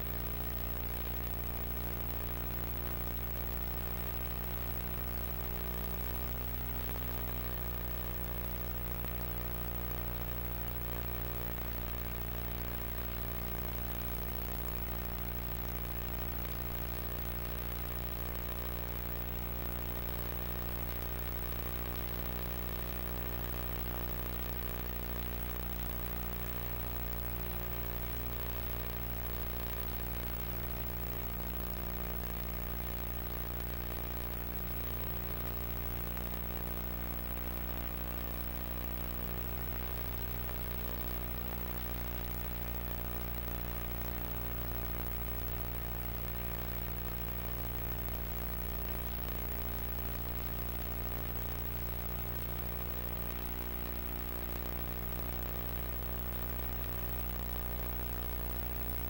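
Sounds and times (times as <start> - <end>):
low hum with overtones: 0.0 - 59.0.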